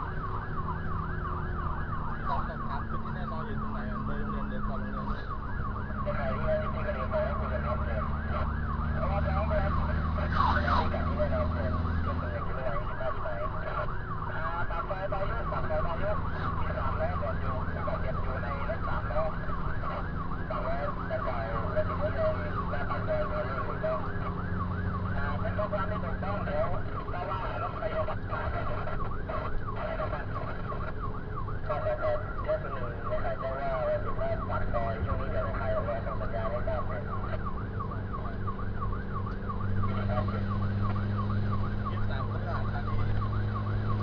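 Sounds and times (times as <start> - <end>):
electronic siren yelping: 0.0 - 44.0
road noise: 0.0 - 44.0
vehicle engine rumble: 0.0 - 44.0.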